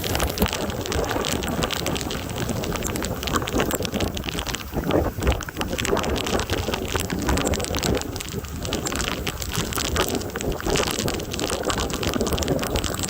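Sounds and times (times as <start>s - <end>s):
heavy rain falling: 0.0s - 13.0s
wind rumbling on microphone: 0.0s - 13.0s.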